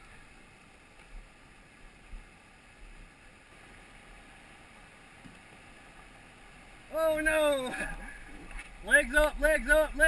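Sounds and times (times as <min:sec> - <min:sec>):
river water running over rocks: 0:00.0 - 0:10.0.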